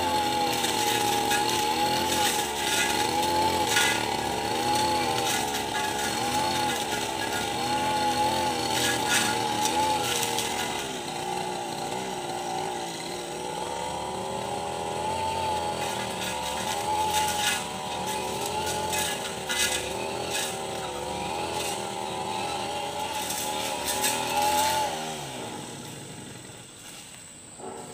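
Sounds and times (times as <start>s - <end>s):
blade crackling through growth: 0.0s - 27.2s
brush cutter engine: 0.0s - 27.9s.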